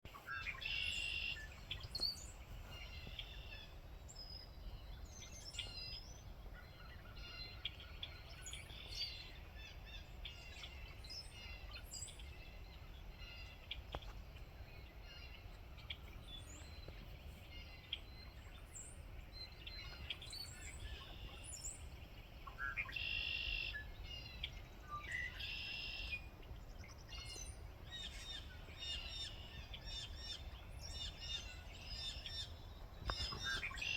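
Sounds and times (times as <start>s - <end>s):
flock of birds chirping: 0.1s - 33.9s.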